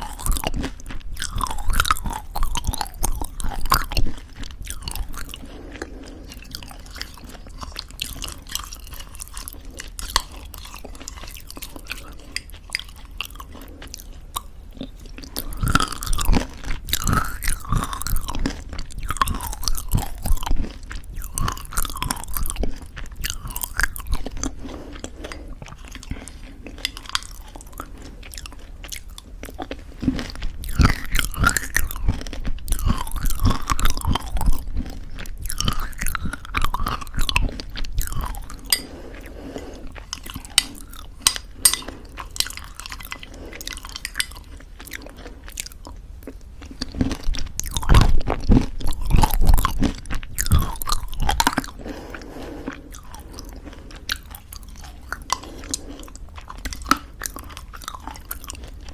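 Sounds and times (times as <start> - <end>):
crunchy granola chewing: 0.0 - 58.9.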